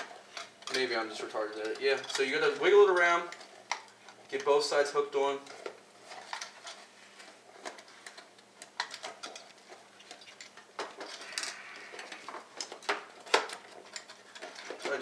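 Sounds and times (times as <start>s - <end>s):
cpu cooler clicking and scraping: 0.0s - 15.0s.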